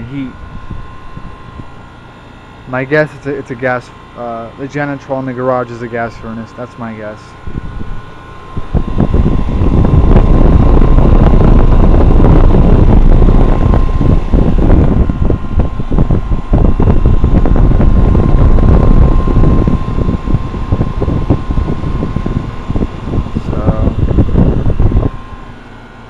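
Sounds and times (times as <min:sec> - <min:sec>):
air conditioner fan rushing: 0:00.0 - 0:26.0.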